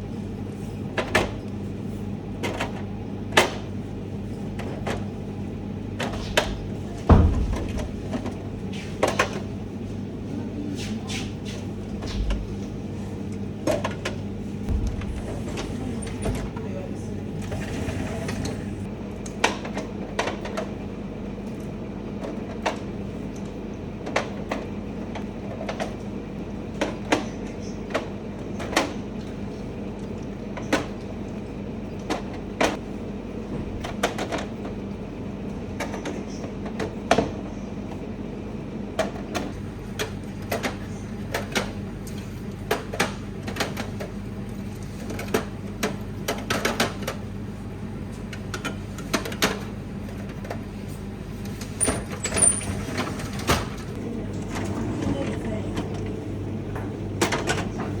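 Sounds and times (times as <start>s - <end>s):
steady low hum: 0.0s - 19.4s, 24.8s - 58.0s.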